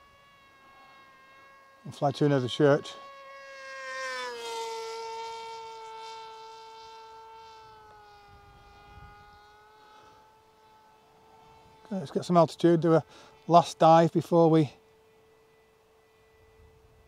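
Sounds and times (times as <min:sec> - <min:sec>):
electric motor and propeller whine: 0:00.0 - 0:17.0.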